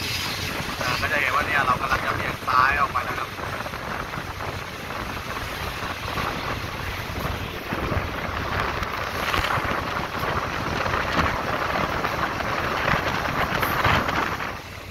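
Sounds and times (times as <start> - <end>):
train wheels rolling on rails: 0.0 - 14.9
wind rushing over microphone: 0.0 - 14.9.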